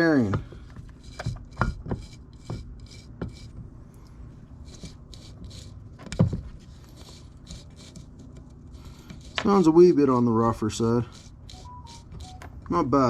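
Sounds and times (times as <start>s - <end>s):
bearing whirring when spun: 0.0s - 13.0s.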